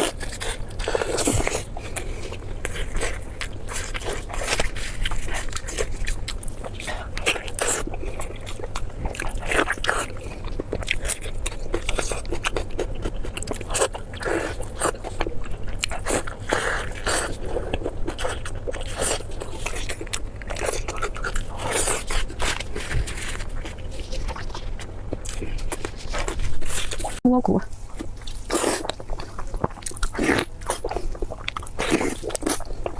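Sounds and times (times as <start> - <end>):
person crunching food: 0.0 - 27.2, 27.8 - 32.9.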